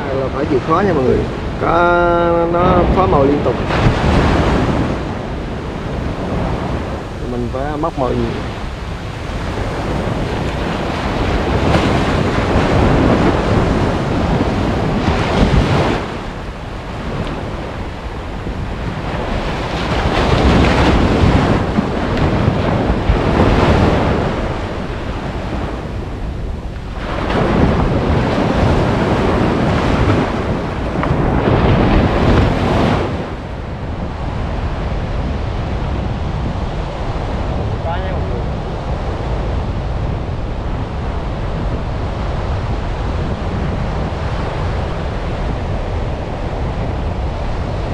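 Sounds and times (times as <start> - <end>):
surf breaking on beach: 0.0 - 47.9
wind buffeting microphone: 0.0 - 47.9.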